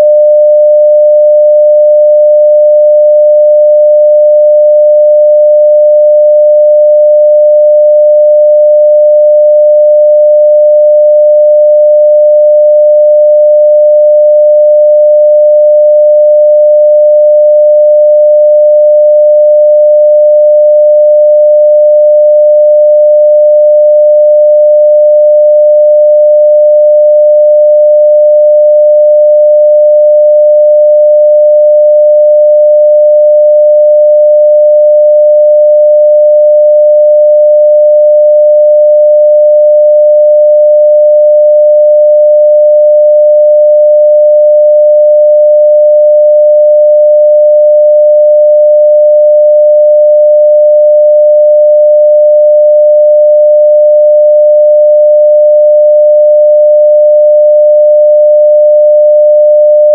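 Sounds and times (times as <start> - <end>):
sine wave test tone: 0.0 - 59.9.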